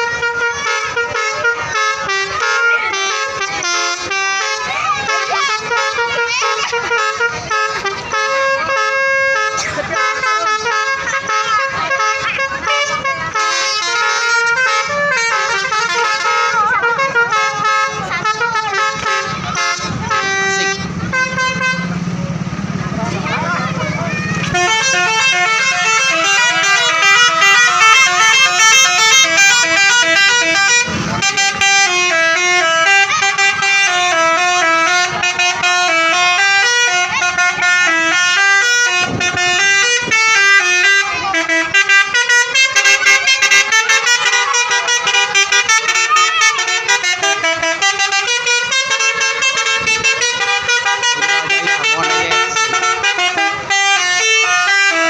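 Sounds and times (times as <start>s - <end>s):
bus horns playing melodies: 0.0s - 55.0s.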